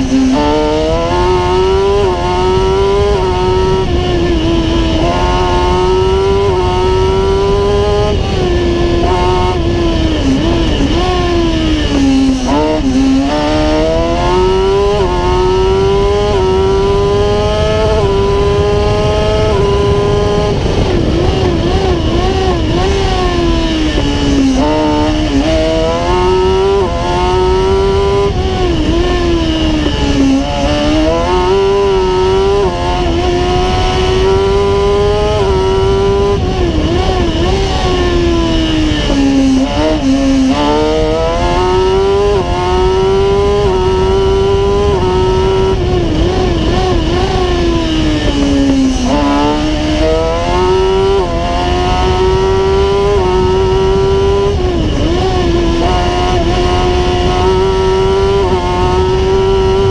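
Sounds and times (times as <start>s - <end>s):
motorcycle engine revving hard: 0.0s - 59.9s.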